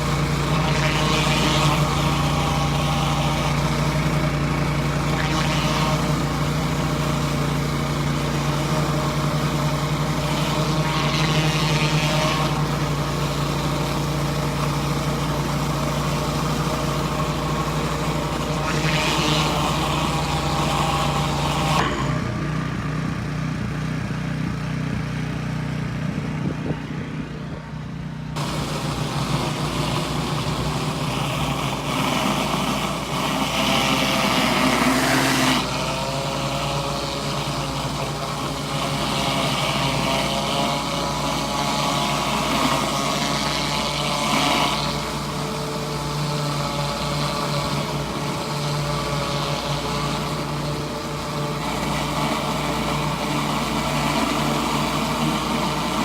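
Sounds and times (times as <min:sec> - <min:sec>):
high-pressure water spraying on concrete: 0:00.0 - 0:22.6, 0:28.4 - 0:56.0
pressure washer engine running: 0:00.0 - 0:56.0.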